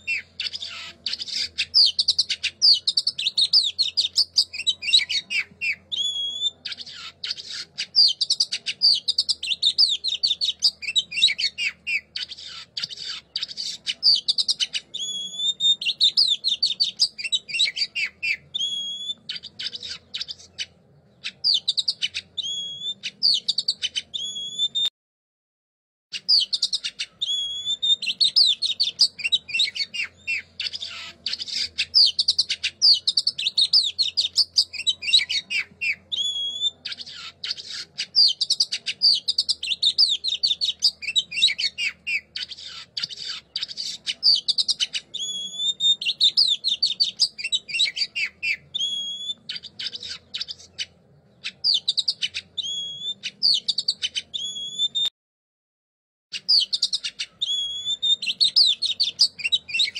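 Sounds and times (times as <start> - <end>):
rising bird whistles: 0.0 - 24.9, 26.1 - 55.1, 56.3 - 59.9
songbird chattering and twittering: 0.0 - 24.9, 26.1 - 55.1, 56.3 - 59.9.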